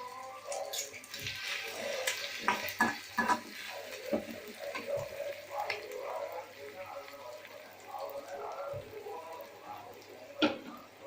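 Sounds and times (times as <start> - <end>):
vegetables sauteing in oil: 0.0 - 11.0.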